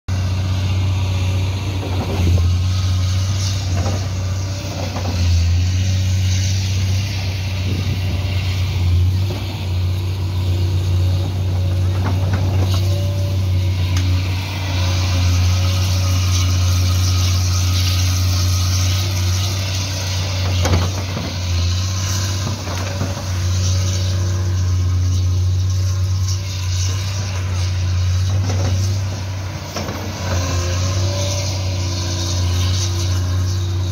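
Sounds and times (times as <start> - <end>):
excavator diesel engine humming: 0.1 - 33.9.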